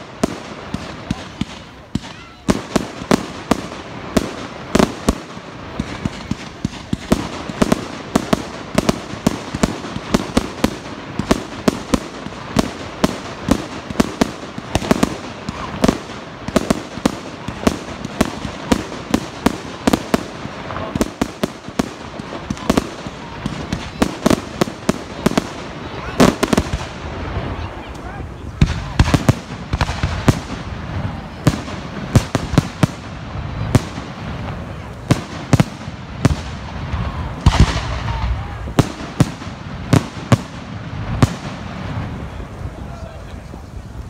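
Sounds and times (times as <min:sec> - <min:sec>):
fireworks bangs and pops: 0:00.0 - 0:44.0.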